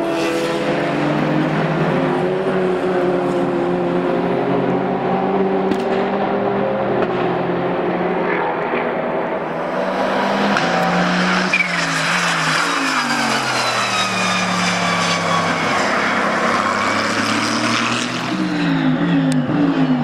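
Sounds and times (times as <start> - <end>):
other race cars: 0.0 - 20.0
race car engine passing: 0.0 - 20.0.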